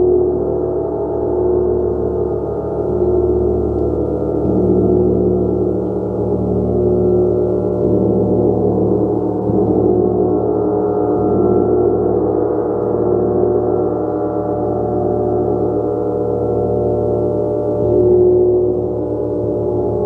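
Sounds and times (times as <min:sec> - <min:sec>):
gong strokes: 0:00.0 - 0:20.0.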